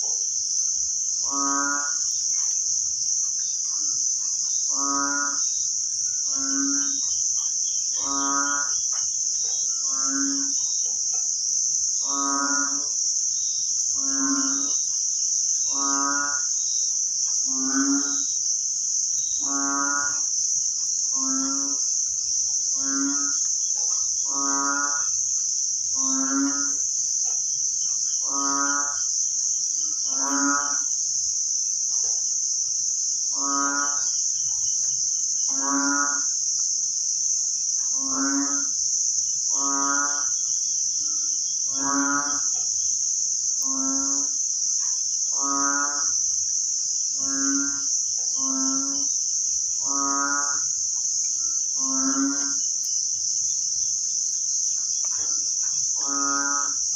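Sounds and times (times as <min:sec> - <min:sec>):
high insect drone: 0:00.0 - 0:56.9.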